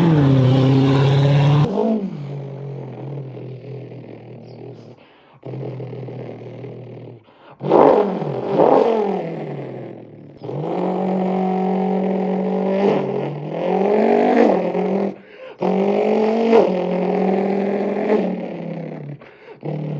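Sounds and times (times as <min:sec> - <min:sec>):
man imitating engine revving: 0:00.0 - 0:04.9, 0:05.5 - 0:19.9.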